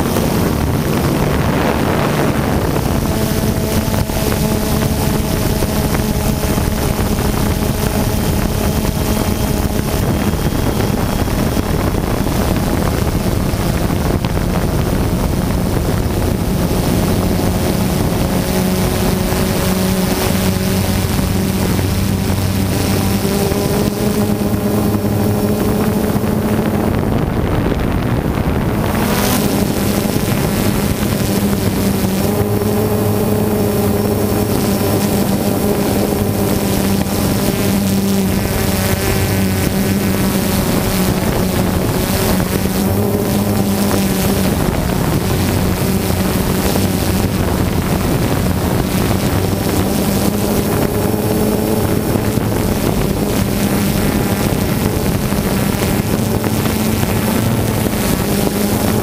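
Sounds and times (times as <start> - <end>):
drone motors humming: 0.0 - 59.0
wind on microphone: 0.0 - 59.0.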